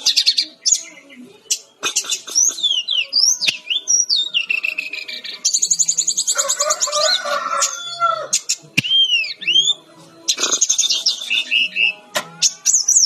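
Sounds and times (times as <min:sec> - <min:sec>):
bird singing whistles and trills: 0:00.0 - 0:07.0, 0:08.3 - 0:13.0.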